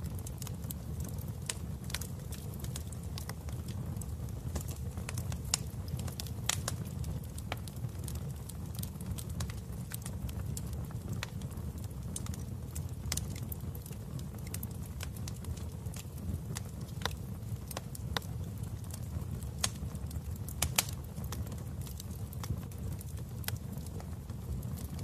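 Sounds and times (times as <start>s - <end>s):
fire crackling with pops: 0.0s - 25.0s.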